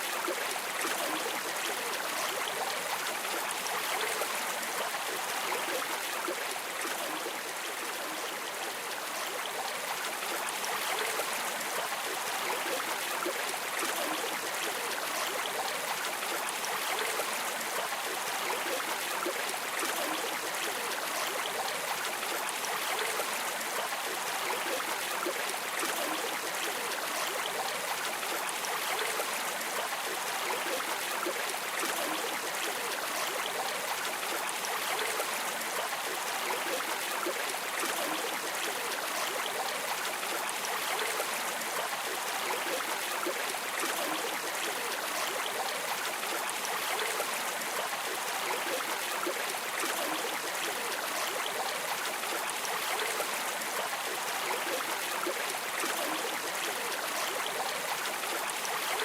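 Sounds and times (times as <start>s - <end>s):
flowing river water: 0.0s - 59.0s.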